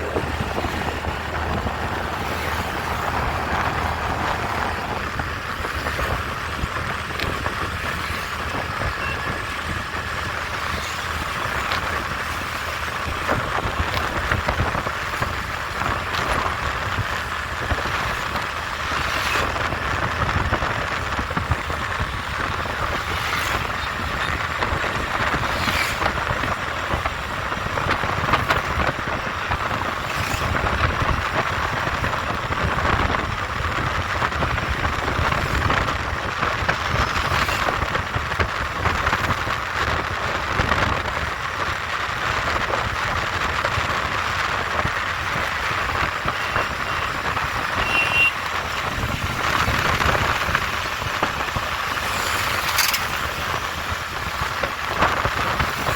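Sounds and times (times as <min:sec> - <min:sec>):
road traffic noise: 0:00.0 - 0:55.9.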